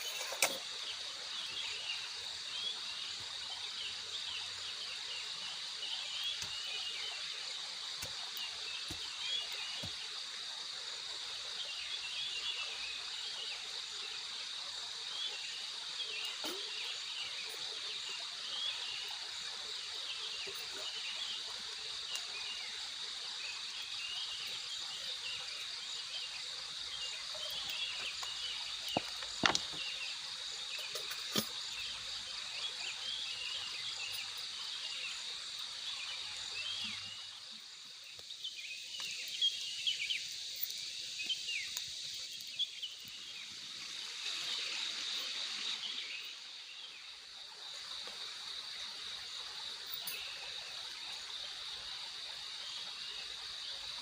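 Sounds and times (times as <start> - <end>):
pulsing insect trill: 0.0 - 54.0
short chirps of insects or frogs: 0.0 - 54.0.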